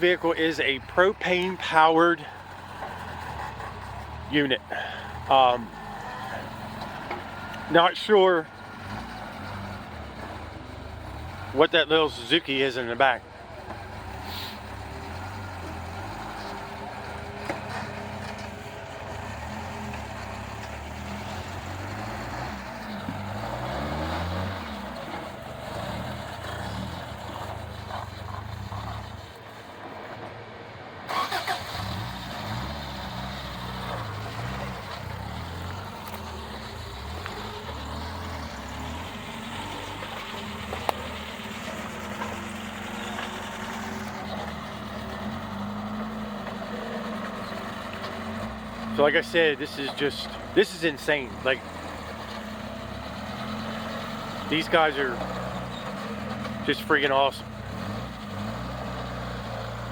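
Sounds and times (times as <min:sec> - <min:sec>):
off-road vehicle engines revving: 0:00.0 - 0:30.2, 0:31.0 - 0:59.9.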